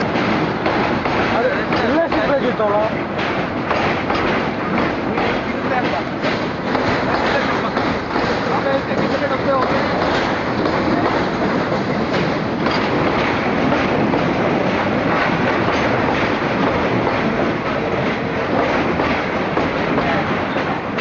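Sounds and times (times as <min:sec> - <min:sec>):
train rumbling over bridge: 0:00.0 - 0:21.0.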